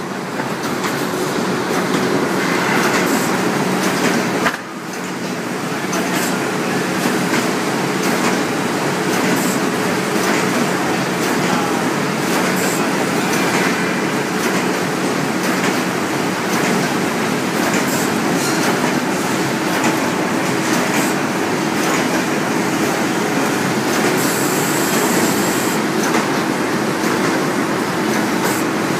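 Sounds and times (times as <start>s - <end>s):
printing machine clatter and hum: 0.0s - 28.9s.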